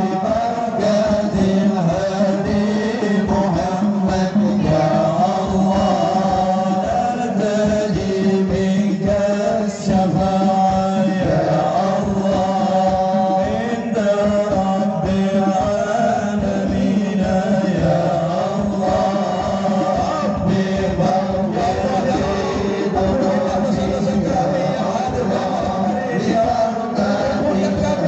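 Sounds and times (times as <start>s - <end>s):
man chanting: 0.0s - 28.0s
quick drum beat: 0.0s - 28.0s.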